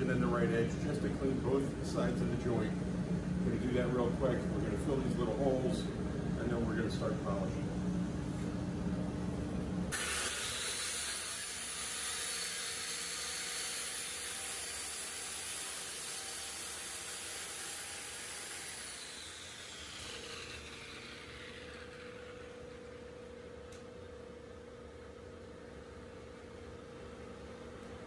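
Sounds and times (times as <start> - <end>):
dust extractor vacuum running: 0.0 - 28.0.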